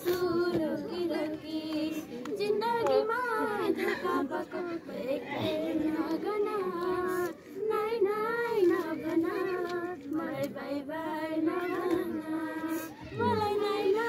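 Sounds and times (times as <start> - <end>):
girls singing together: 0.0 - 14.0.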